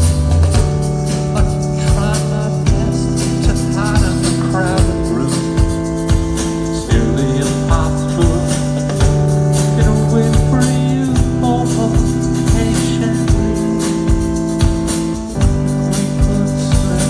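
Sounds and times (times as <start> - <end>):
live indie rock band: 0.0 - 17.0.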